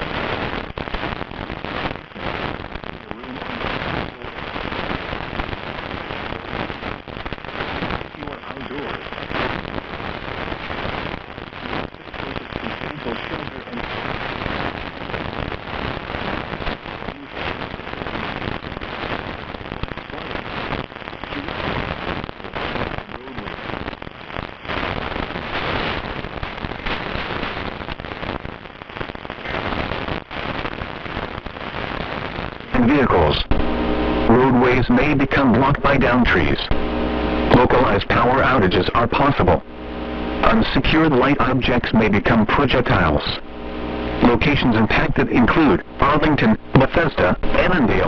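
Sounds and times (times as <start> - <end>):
radio static crackling hiss: 0.0 - 48.0.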